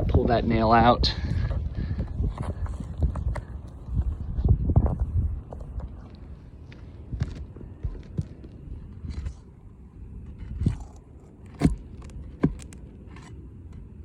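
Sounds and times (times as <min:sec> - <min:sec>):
scraping on shingle roof: 0:01.3 - 0:14.0.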